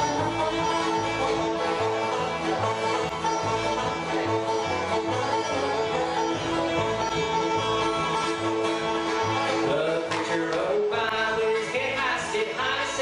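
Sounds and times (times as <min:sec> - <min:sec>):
acoustic guitar: 0:00.0 - 0:13.0
banjo picking: 0:00.0 - 0:13.0.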